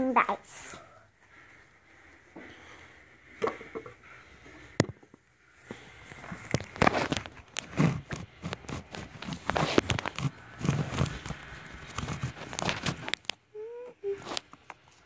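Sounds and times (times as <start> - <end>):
close rustling and scraping: 0.6 - 13.4.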